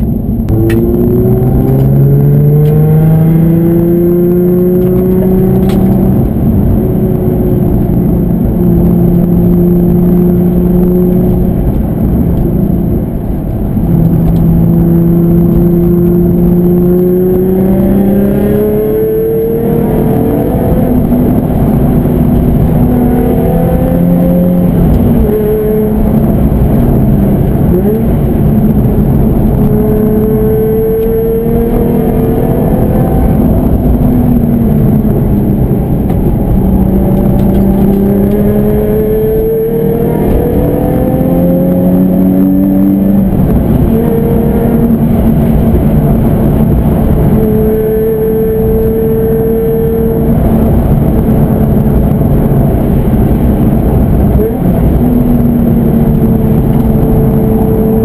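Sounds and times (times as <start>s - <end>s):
car engine accelerating through gears: 0.0s - 58.0s.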